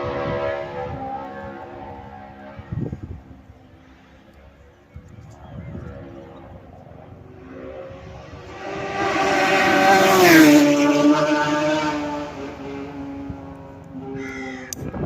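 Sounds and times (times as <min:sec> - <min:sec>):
racing motorcycle passing at speed: 0:00.0 - 0:03.4, 0:05.7 - 0:14.6.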